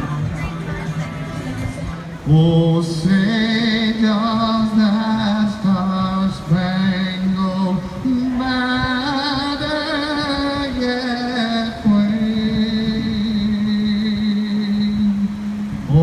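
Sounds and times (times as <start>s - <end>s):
song accompaniment: 0.0s - 14.3s.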